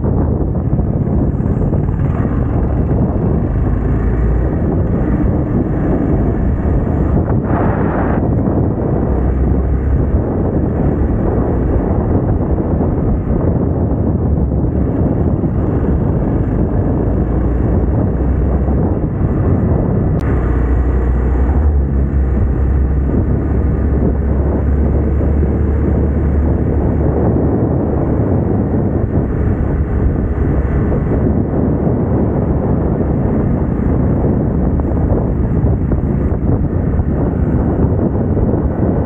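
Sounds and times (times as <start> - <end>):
motorcycle engine running: 0.0 - 39.0
wind over microphone: 0.0 - 39.0.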